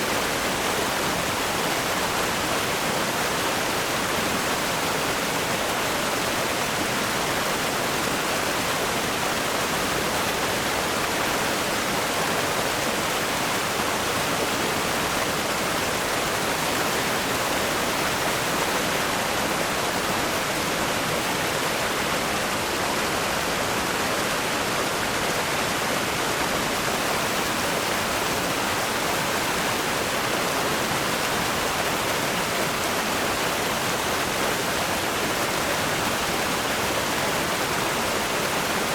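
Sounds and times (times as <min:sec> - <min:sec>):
river rapids rushing over rocks: 0:00.0 - 0:38.9.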